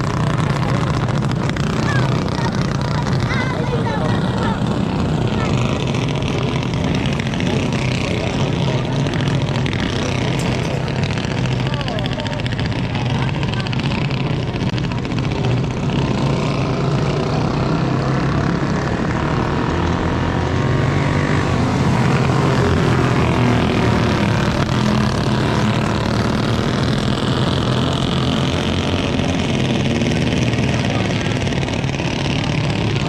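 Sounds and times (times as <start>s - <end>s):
kart engine running: 0.0s - 33.0s.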